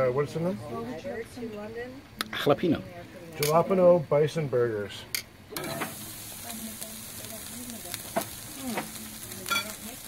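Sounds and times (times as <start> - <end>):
burger patties sizzling on grill: 0.0 - 10.0.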